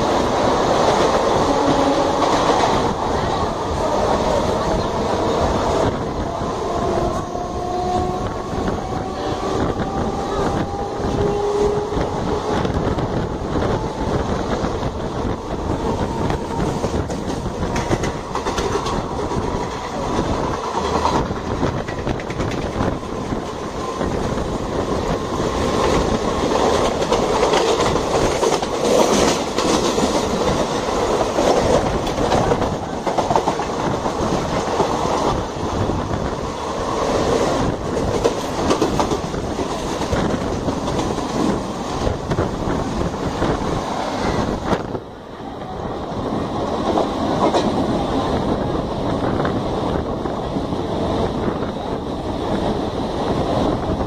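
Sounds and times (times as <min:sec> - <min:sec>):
train wheels clickety-clack: 0:00.0 - 0:45.0, 0:46.5 - 0:54.0.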